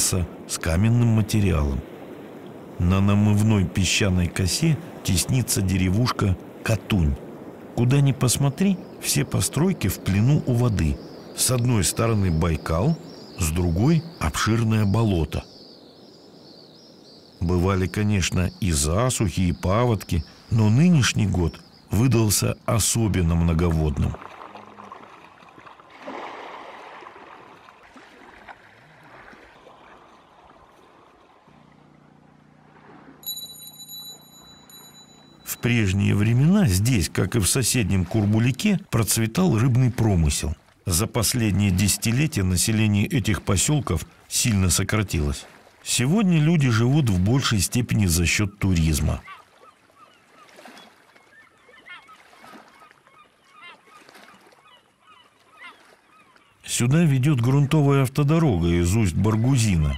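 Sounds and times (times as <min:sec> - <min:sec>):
water sloshing around waders: 0:03.7 - 0:59.9.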